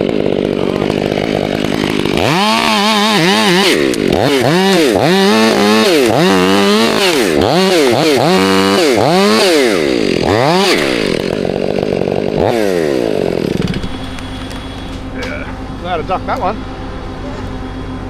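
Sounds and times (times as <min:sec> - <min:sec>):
chainsaw engine revving: 0:00.0 - 0:16.6.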